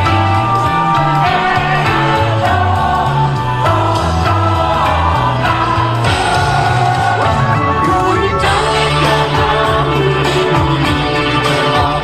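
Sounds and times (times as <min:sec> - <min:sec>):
bass line: 0:00.0 - 0:12.0
person singing: 0:00.0 - 0:12.0.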